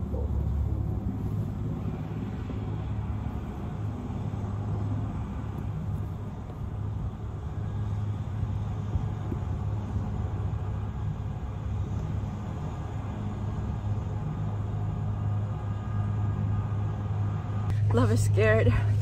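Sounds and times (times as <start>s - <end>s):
helicopter rumbling: 0.0s - 19.0s.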